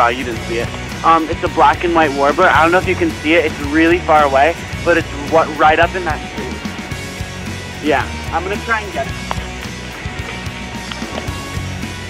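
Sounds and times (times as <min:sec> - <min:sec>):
background music with low bass: 0:00.0 - 0:12.0.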